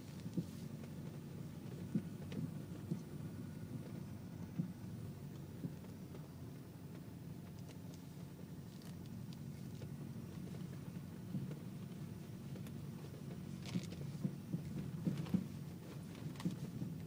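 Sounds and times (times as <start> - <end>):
road and engine rumble: 0.0 - 17.0
suspension clunks: 0.0 - 17.0.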